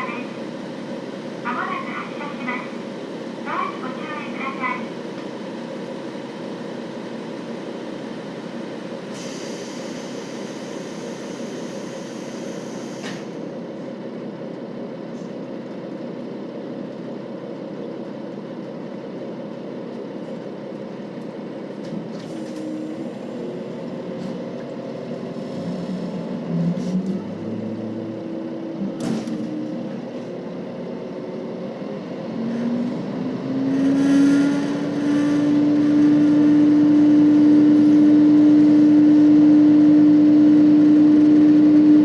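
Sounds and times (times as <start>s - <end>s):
railcar diesel engine humming: 0.0s - 42.0s.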